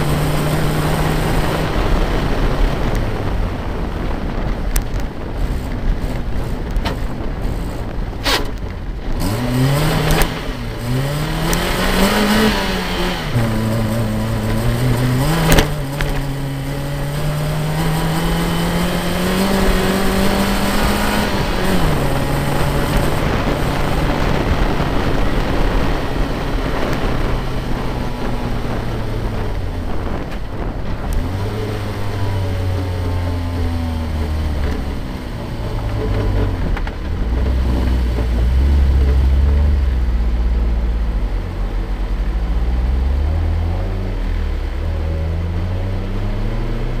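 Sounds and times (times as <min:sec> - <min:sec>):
car engine revving: 0:00.0 - 0:47.0
wind buffeting microphone: 0:00.0 - 0:47.0.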